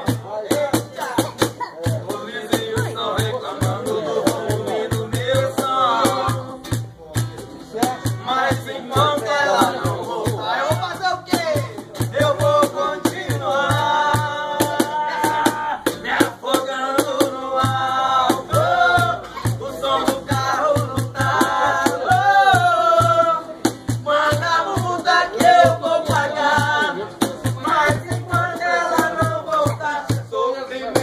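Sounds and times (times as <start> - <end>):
steady percussive beat: 0.0 - 31.0.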